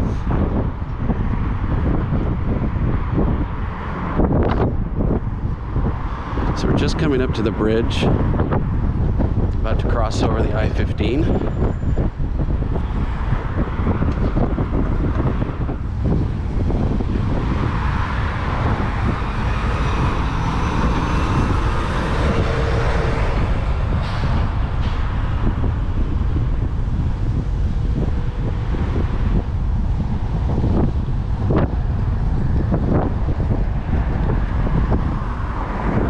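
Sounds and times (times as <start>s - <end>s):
freeway traffic noise: 0.0s - 36.0s
wind buffeting the microphone: 0.0s - 36.0s.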